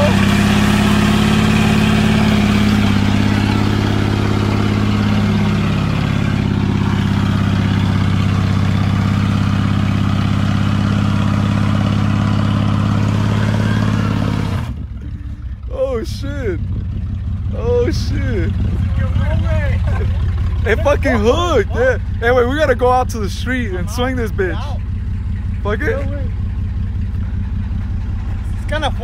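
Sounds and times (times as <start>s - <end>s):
truck engine revving high: 0.0s - 29.0s.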